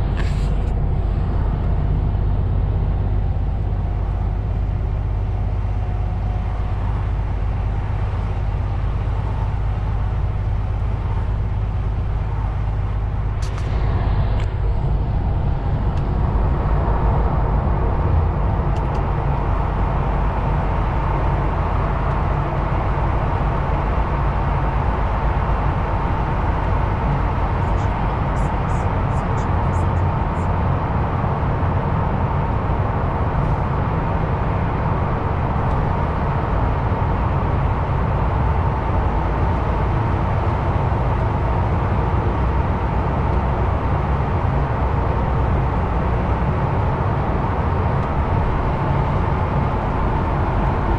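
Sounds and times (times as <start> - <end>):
truck engine and road noise: 0.0 - 50.9.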